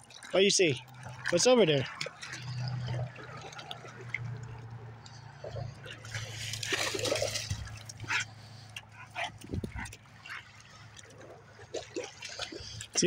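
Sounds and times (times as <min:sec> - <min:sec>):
dogs splashing in water: 0:00.0 - 0:13.0.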